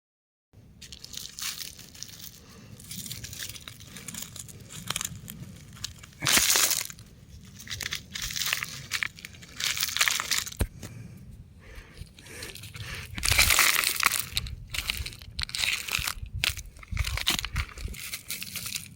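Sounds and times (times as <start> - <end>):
rock crumbling and crunching: 0.8 - 11.0, 11.7 - 18.9.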